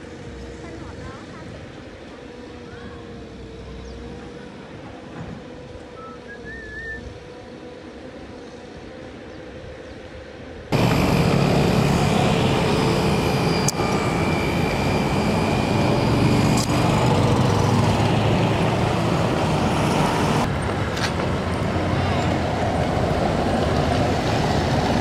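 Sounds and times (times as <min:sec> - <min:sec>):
road traffic drone: 0:00.0 - 0:25.0.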